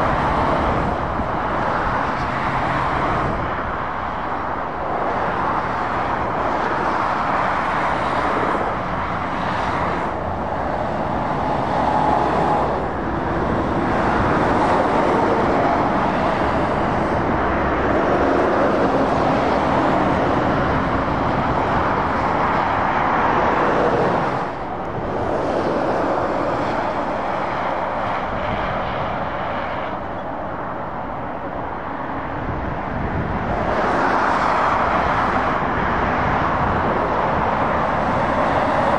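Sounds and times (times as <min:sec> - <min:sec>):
vehicles passing on motorway: 0:00.0 - 0:38.9.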